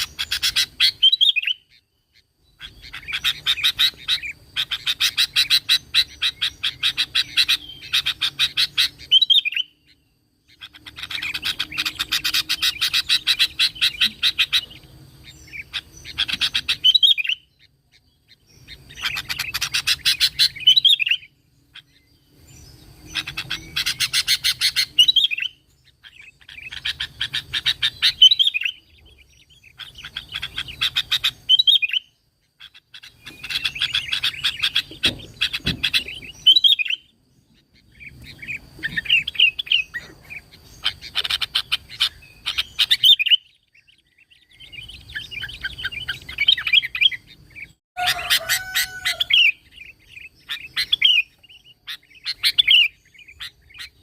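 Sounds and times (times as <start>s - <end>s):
bulbul singing: 0.0s - 54.0s.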